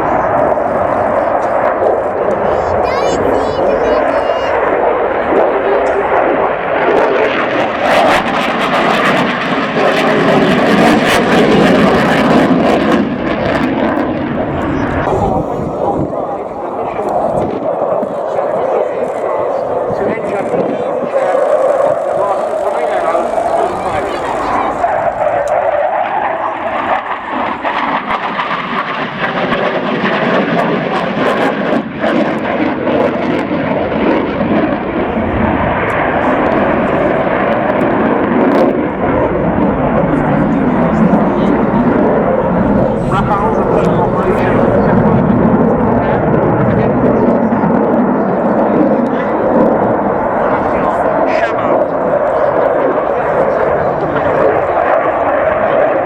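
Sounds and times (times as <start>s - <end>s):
aircraft flying past: 0.0s - 56.0s.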